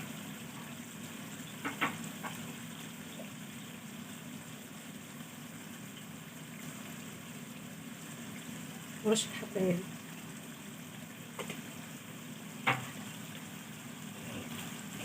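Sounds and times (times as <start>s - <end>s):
chicken and onion sizzling in a pan: 0.0s - 15.0s.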